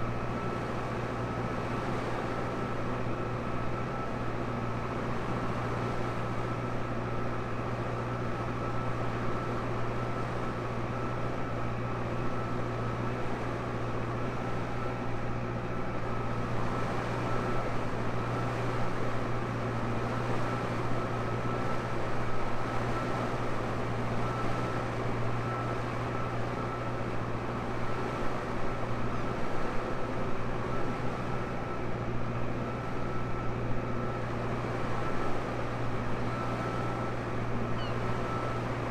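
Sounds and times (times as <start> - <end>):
thin steady whine: 0.0 - 38.9
tractor engine running under load: 0.0 - 38.9.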